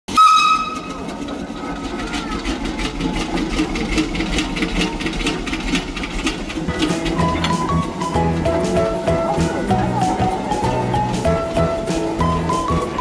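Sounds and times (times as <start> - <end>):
machinery rhythmic clatter: 0.1 - 13.0.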